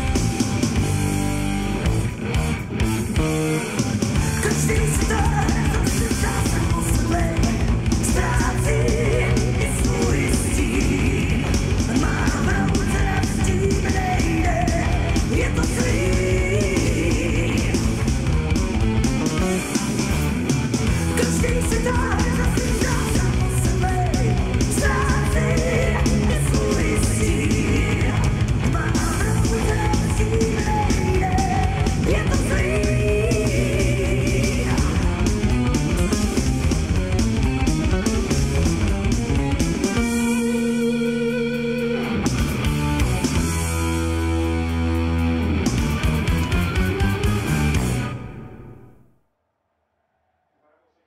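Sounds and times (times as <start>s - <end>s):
rock music with singing: 0.0s - 49.0s.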